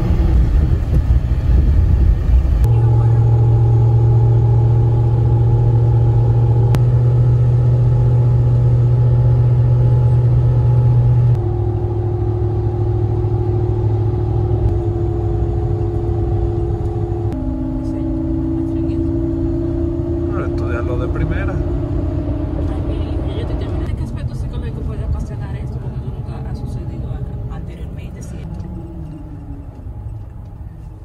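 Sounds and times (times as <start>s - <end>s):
engine and road drone in cabin: 0.0s - 31.0s.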